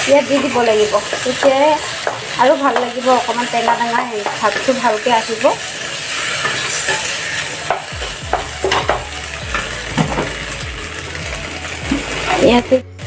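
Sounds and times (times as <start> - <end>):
spatula scraping pan: 0.0 - 10.6
vegetables sizzling in oil: 0.0 - 12.9.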